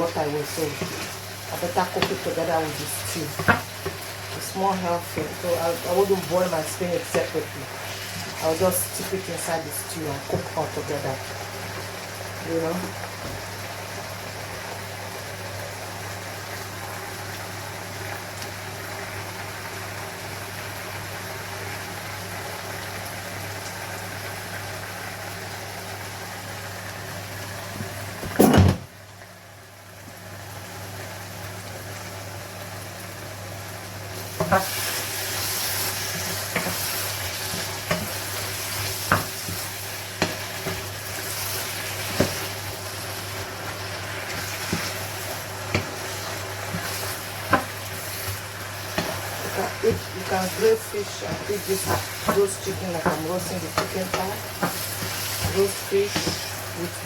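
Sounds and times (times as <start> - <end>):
stew sizzling in a pot: 0.0 - 57.0.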